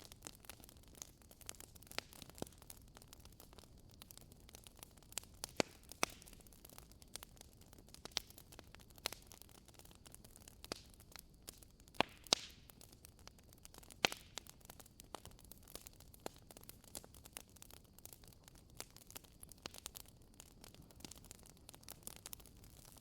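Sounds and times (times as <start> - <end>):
faint steady hiss: 0.0 - 23.0
wood fire crackling and popping: 0.0 - 23.0.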